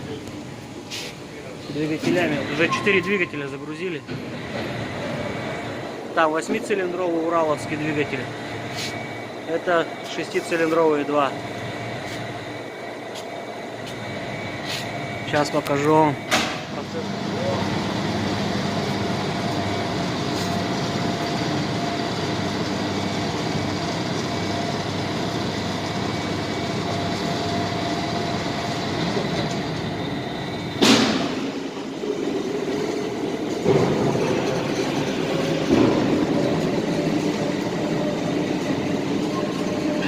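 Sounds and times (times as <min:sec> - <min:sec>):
heavy machinery humming: 0:00.0 - 0:40.0.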